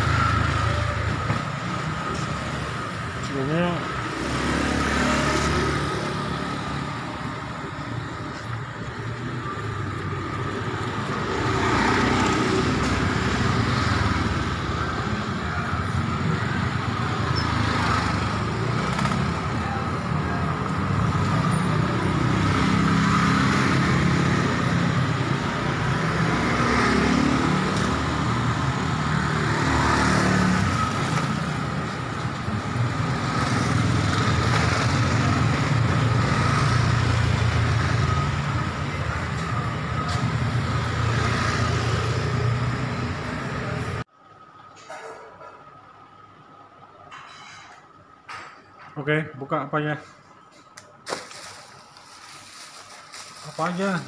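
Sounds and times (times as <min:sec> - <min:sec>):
passing vehicle engines: 0:00.0 - 0:44.1
street background noise: 0:00.0 - 0:54.0.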